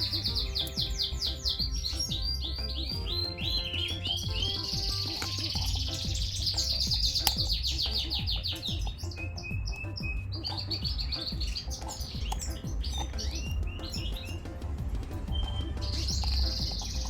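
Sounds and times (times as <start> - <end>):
bird trill of high notes: 0.0 - 14.6, 15.3 - 17.0
background music: 0.0 - 17.0
small songbirds chirping: 0.0 - 17.0.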